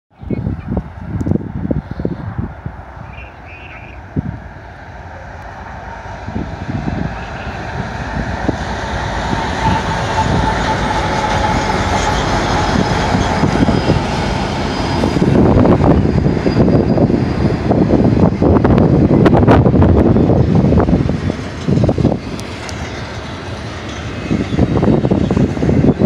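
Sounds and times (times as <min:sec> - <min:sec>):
locomotive engines rumbling: 0:00.2 - 0:26.0
train wheels on rail: 0:00.5 - 0:26.0.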